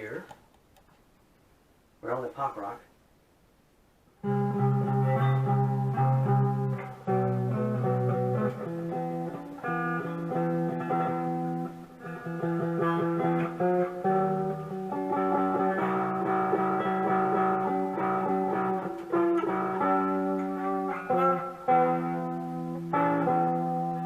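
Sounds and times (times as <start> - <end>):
electric guitar through amplifier: 4.2 - 24.0.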